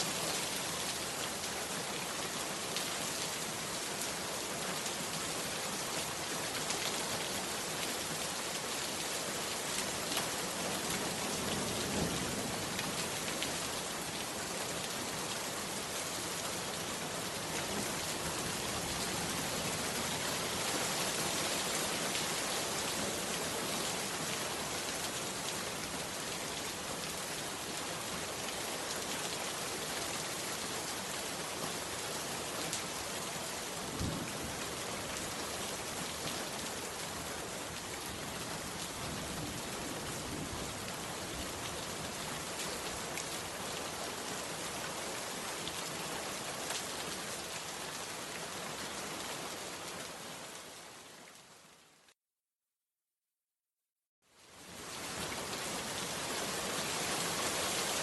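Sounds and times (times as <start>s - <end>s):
heavy rain: 0.0s - 52.1s, 54.3s - 58.0s.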